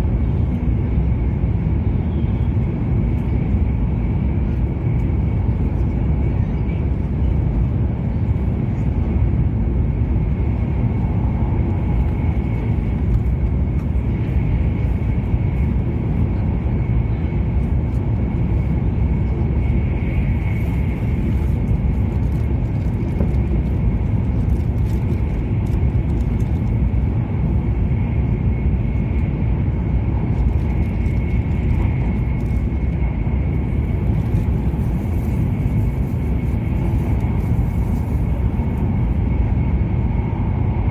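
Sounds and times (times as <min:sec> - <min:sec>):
train cabin low rumble: 0:00.0 - 0:40.9.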